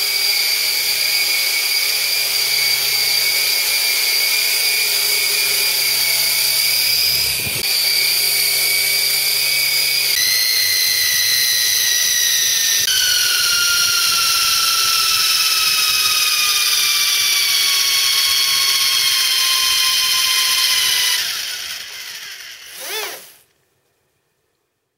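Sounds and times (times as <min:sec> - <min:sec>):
toy helicopter rotors whining: 0:00.0 - 0:23.5.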